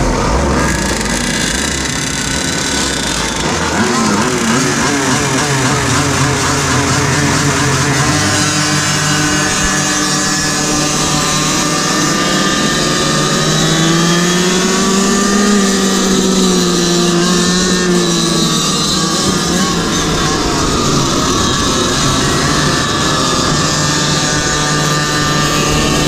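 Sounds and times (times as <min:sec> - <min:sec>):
small gas engines racing: 0:00.0 - 0:26.0.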